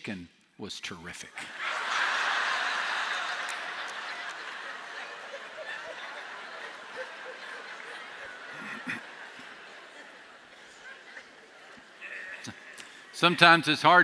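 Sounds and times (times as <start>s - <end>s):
congregation laughing: 1.3s - 13.5s.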